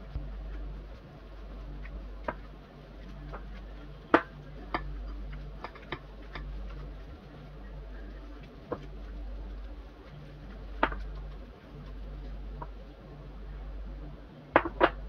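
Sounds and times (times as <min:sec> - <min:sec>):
hands kneading mixture in bowl: 0:00.0 - 0:15.0
low steady hum: 0:00.0 - 0:15.0.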